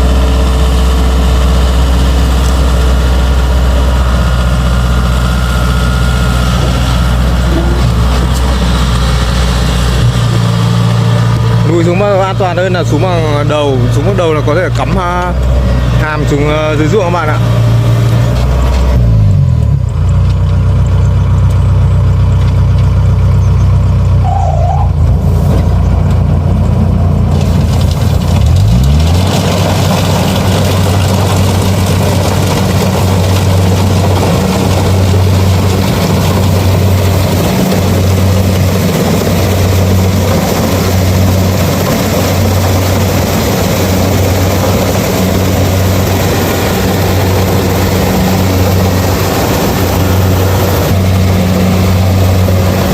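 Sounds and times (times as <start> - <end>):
harvester machinery clattering: 0.0 - 24.0, 25.0 - 52.9
combine harvester diesel engine: 0.0 - 52.9.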